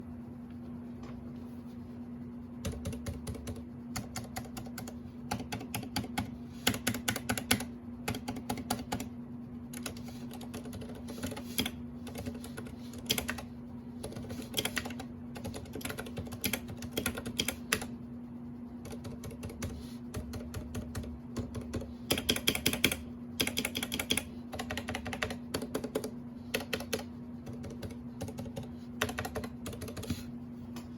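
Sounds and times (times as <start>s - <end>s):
steady low hum: 0.0s - 30.9s
muted keyboard typing: 2.6s - 18.0s, 18.8s - 30.3s.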